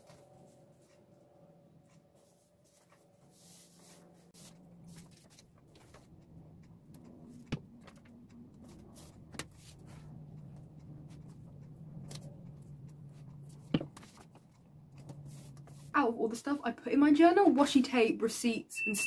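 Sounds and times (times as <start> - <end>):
faint low hum: 0.0 - 17.6.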